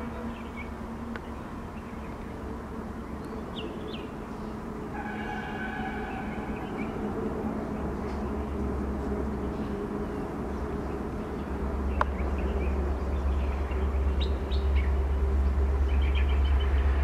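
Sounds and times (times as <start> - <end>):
birds chirping: 0.0 - 17.0
diesel locomotive engine running: 0.0 - 17.0.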